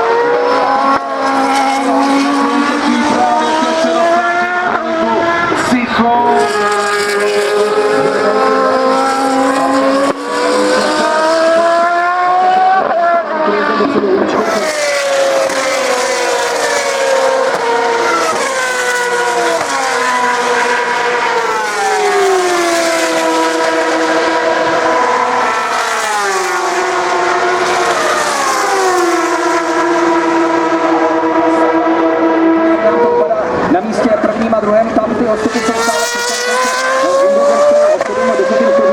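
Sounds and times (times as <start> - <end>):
racing car engines revving: 0.0 - 38.9.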